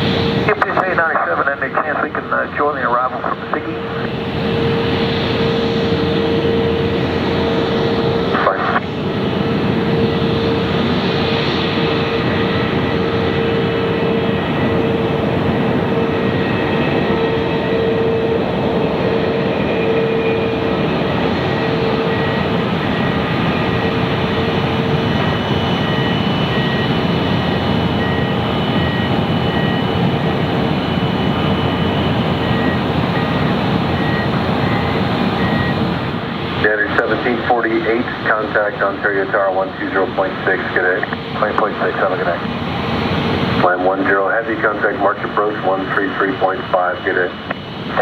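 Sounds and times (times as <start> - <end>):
jet engines rushing: 0.0 - 48.0
steady engine hum: 3.4 - 46.4.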